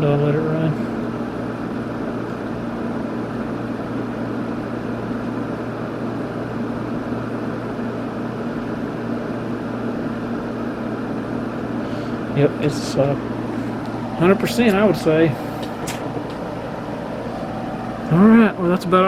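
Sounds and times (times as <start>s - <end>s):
air conditioner fan rushing: 0.0s - 19.0s
compressor humming: 0.0s - 19.0s.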